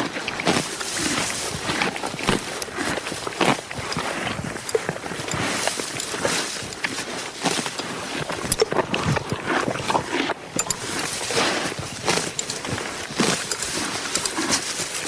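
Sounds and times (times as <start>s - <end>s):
horse chewing grass: 0.0s - 15.0s.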